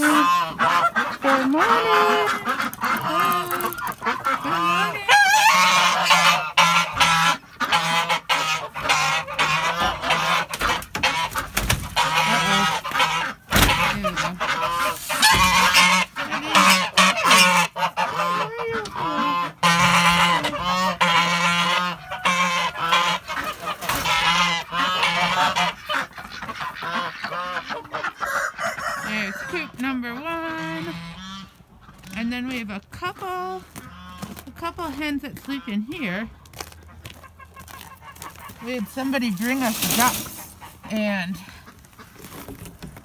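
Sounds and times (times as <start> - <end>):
geese honking: 0.0 - 42.3.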